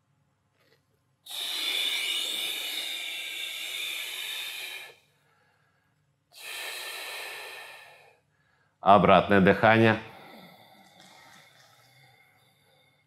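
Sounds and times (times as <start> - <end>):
man breathing slowly: 1.3 - 8.8, 10.0 - 13.0.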